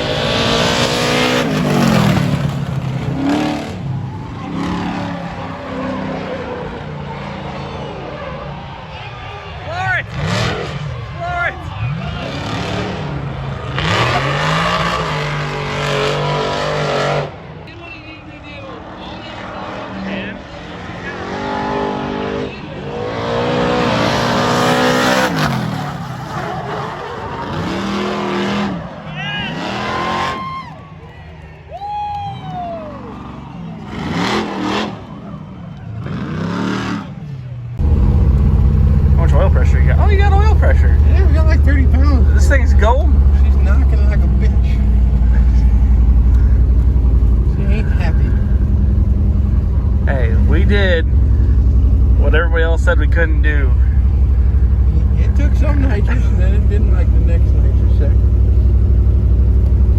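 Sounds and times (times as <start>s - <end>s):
racing car engine revving: 0.0s - 9.0s, 9.6s - 17.7s, 18.3s - 30.6s, 33.0s - 59.9s.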